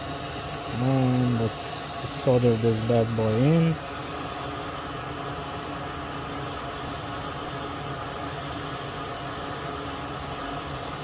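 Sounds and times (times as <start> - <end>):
steady hiss with low hum: 0.0 - 11.0.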